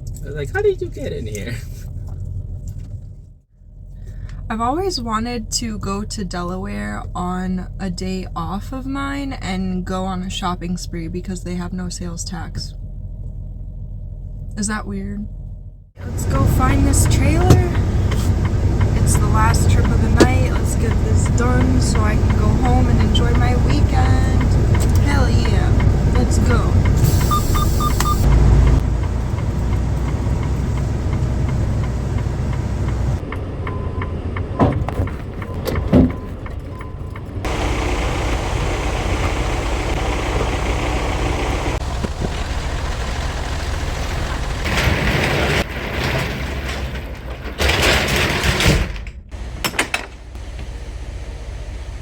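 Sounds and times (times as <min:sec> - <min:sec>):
truck engine rumbling: 0:00.0 - 0:52.0.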